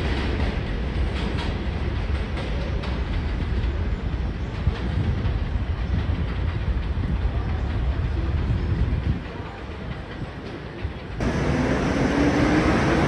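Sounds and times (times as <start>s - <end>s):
subway train rumble: 0.0s - 13.0s
wheels clacking over rail joints: 0.0s - 13.0s.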